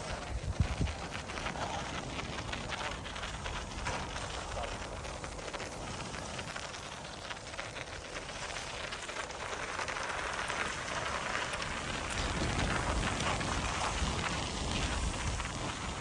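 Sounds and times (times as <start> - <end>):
bicycle tyres crunching on snow: 0.0 - 16.0
wind rumble on microphone: 0.0 - 16.0.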